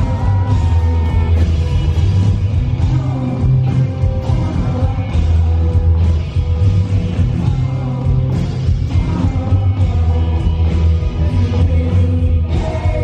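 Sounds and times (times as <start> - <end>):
electric guitar: 0.0 - 13.0
heavy bass: 0.0 - 13.0.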